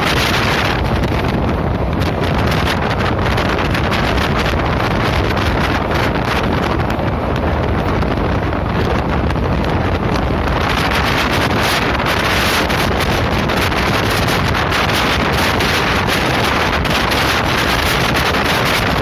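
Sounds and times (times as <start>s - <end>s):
train rumbling at speed: 0.0s - 19.0s
wind buffeting microphone: 0.0s - 19.0s.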